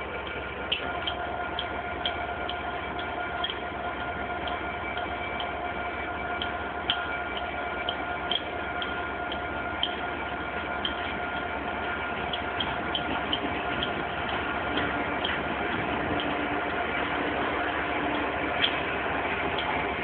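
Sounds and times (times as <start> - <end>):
station background hum: 0.0 - 20.0
thin steady whine: 0.0 - 20.0.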